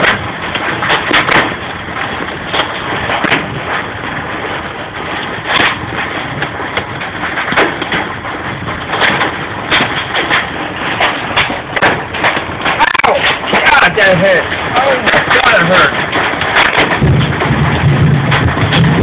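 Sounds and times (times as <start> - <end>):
hail and rain pelting a car: 0.0 - 19.0
hailstones cracking on car body: 0.0 - 19.0.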